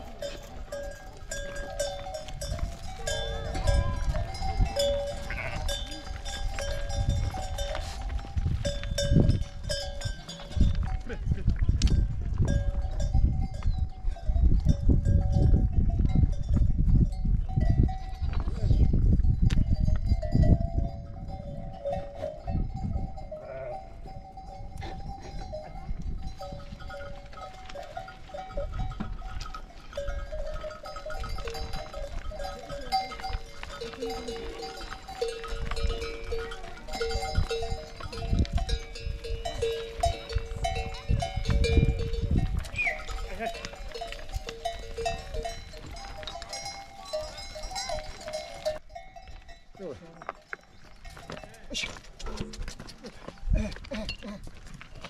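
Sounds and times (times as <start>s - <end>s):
animal bells clanking: 0.0s - 55.0s.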